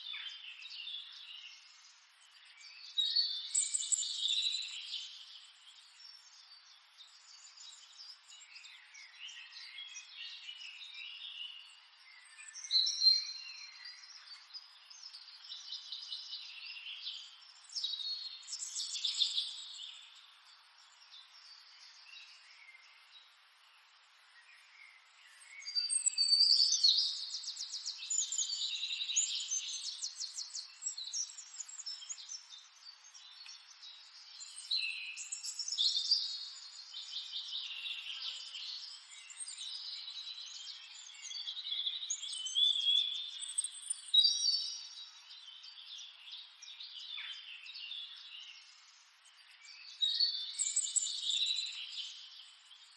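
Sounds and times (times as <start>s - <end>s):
songbirds singing and chirping: 0.0s - 52.9s.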